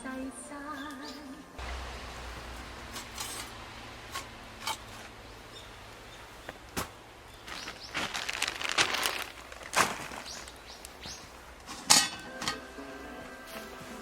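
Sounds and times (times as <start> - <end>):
rustling: 0.1 - 14.0
wood fire crackling: 1.6 - 14.0.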